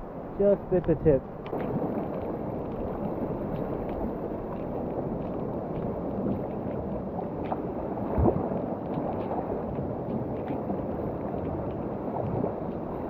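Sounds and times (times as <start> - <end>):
water lapping at shore: 0.0 - 13.0
wind on microphone: 0.0 - 13.0.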